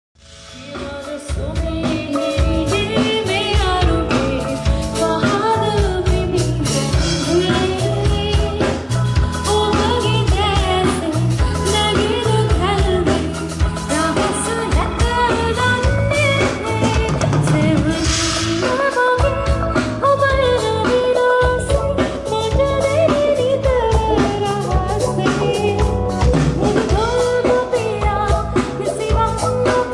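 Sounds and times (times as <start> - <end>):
bass: 0.2 - 29.9
drums: 0.2 - 29.9
woman singing: 0.5 - 29.9.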